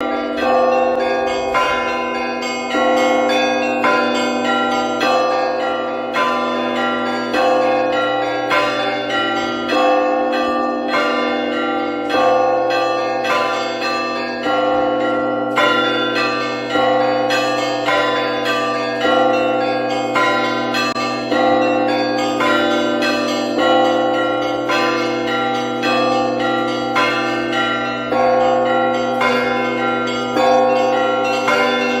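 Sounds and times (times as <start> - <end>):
church bells ringing: 0.0 - 32.0.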